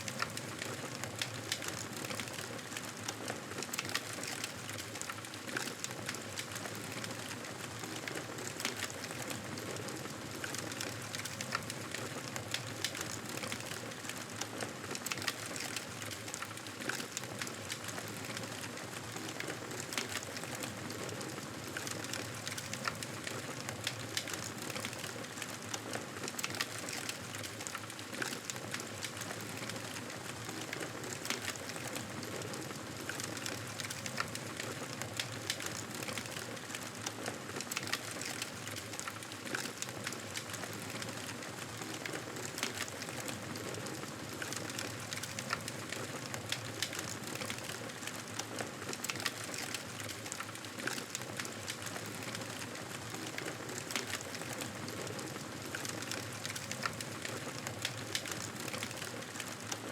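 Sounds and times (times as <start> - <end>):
wood fire crackling in fireplace: 0.0 - 59.9.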